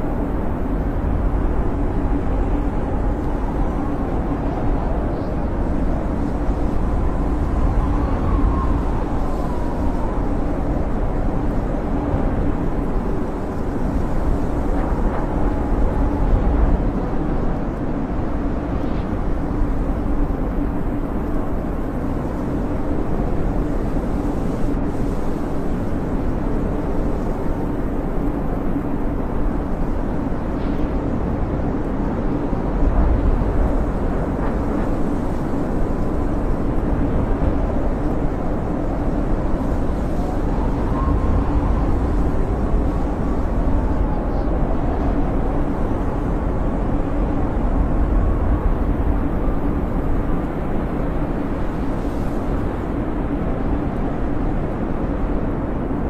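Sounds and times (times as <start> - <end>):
wind howling: 0.0 - 56.0.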